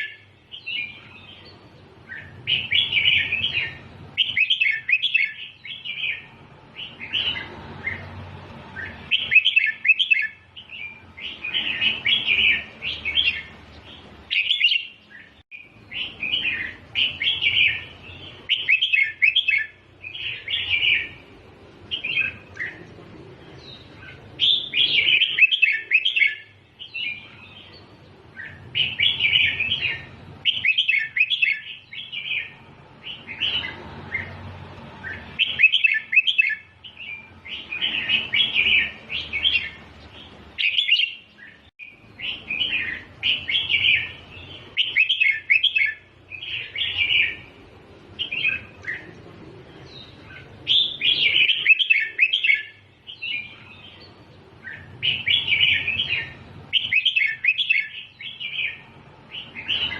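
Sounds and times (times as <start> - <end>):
bird singing bubbly phrases: 0.0 - 8.1, 8.7 - 34.4, 35.0 - 47.6, 48.2 - 59.9.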